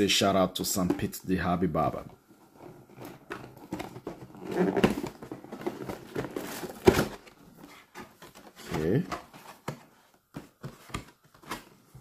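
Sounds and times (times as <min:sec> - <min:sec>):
cardboard and plastic rustling: 0:01.8 - 0:12.0.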